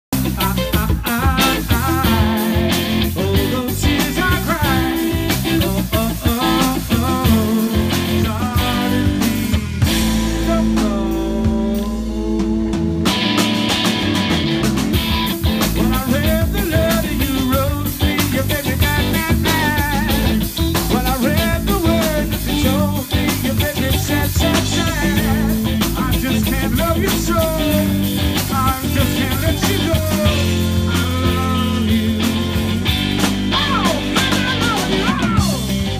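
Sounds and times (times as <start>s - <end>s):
bass guitar: 0.0s - 35.9s
drum kit: 0.0s - 35.9s
electric guitar: 0.1s - 35.9s.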